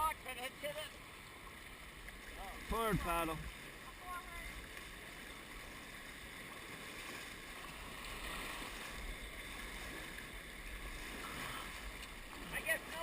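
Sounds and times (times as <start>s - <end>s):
river water rushing and splashing: 0.0s - 13.0s.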